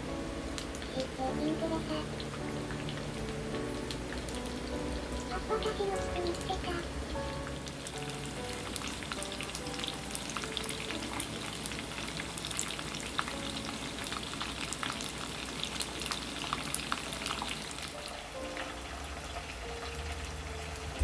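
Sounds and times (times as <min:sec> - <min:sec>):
faint piano music: 0:00.0 - 0:21.0
oil sizzling and crackling: 0:00.0 - 0:21.0.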